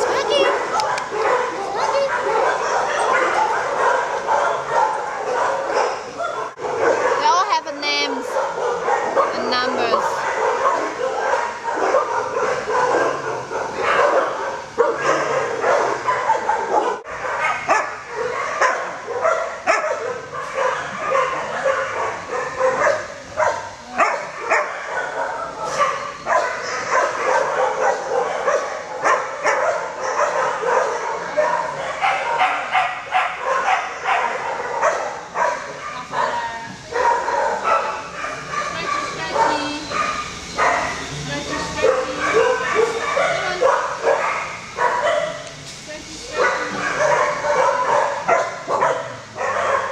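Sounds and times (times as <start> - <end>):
many dogs barking and whining: 0.0 - 49.9.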